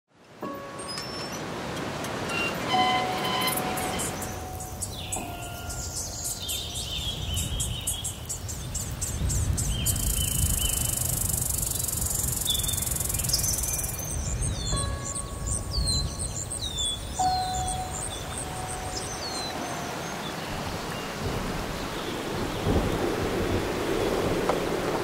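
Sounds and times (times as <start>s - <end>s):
insects chirping: 0.8s - 24.1s
bird calls: 2.2s - 23.1s.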